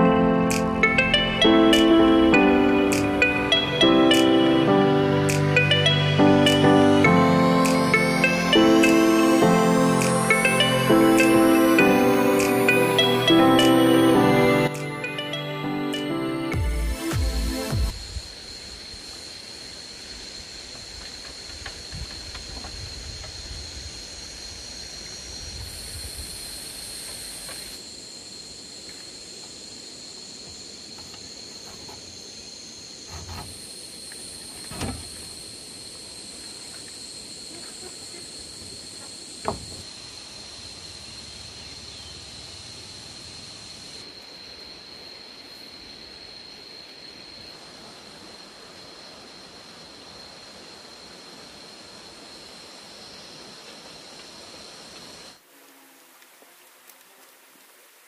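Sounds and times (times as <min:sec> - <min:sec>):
high-pitched insect drone: 0:00.0 - 0:20.7, 0:21.4 - 0:47.7.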